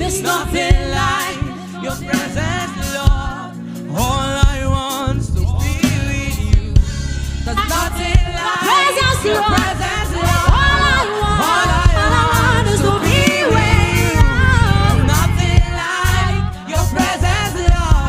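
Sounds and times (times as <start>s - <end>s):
singers holding melodic lines: 0.0s - 6.8s, 7.5s - 18.0s
low bass: 0.0s - 8.4s, 9.0s - 18.0s.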